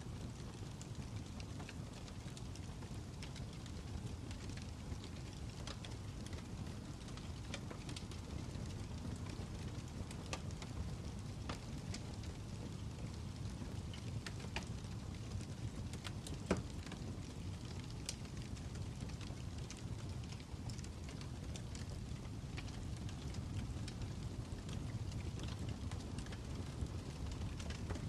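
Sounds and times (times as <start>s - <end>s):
fire crackling: 0.0s - 28.0s
fire pops and snaps: 0.0s - 28.0s.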